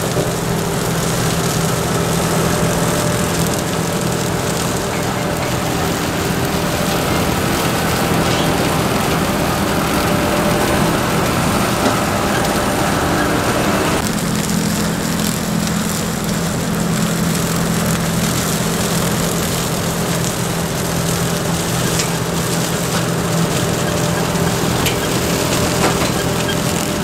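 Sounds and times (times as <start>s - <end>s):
diesel farm machinery running: 0.0s - 27.0s.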